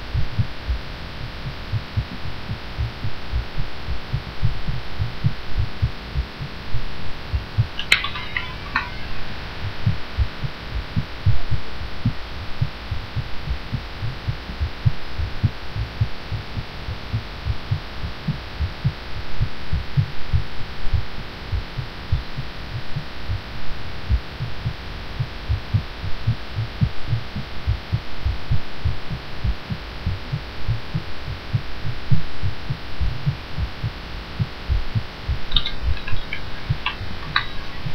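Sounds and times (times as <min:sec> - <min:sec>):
steady hiss: 0:00.0 - 0:37.9
fast heartbeat thumps: 0:00.1 - 0:06.6, 0:07.3 - 0:37.9.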